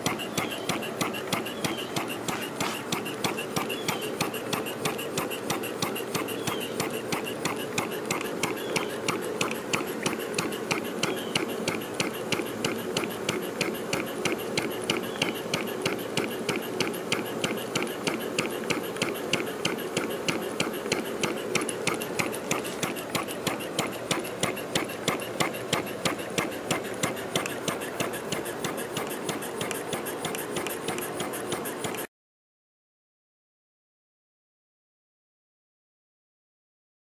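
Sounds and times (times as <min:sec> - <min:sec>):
steam engine ticking: 0:00.0 - 0:32.1.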